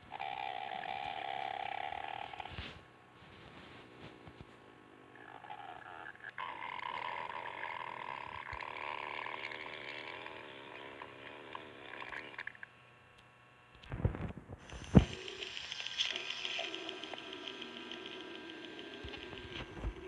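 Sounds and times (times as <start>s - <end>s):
cartoon stomach growling: 0.0s - 2.7s, 5.1s - 12.7s, 13.8s - 20.0s.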